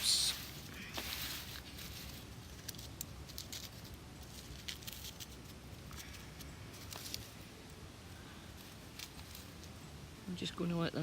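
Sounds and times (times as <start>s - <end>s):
dry flower bulbs crackling: 0.0s - 11.0s.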